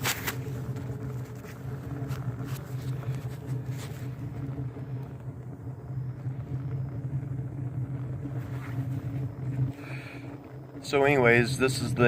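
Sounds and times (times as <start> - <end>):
faint crackles: 0.0 - 12.0
stove low rumbling hum: 0.0 - 12.0.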